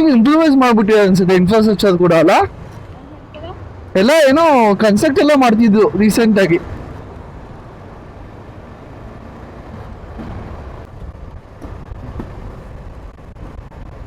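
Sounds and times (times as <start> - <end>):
motorcycle engine rumble: 0.0 - 14.0
wind noise: 0.0 - 14.0.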